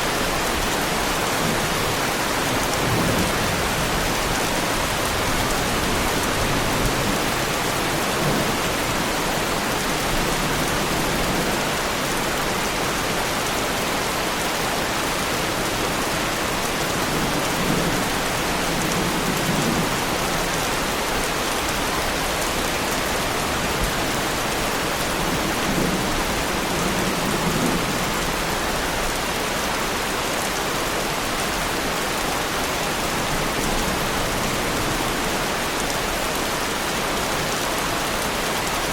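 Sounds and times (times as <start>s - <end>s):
heavy rain on a car: 0.0s - 38.9s.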